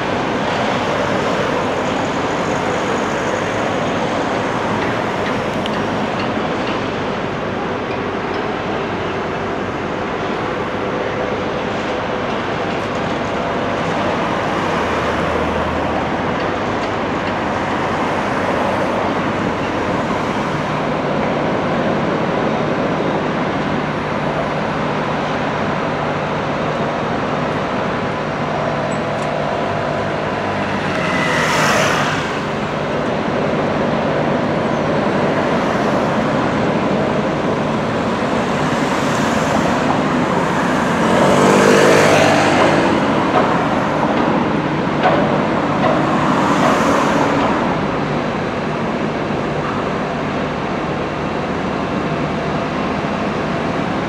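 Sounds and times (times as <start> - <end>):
road traffic noise: 0.0 - 54.0.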